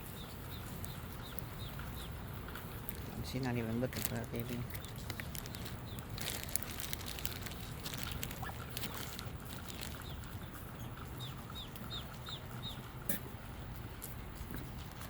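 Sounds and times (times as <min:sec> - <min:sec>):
ducklings peeping: 0:00.0 - 0:13.8.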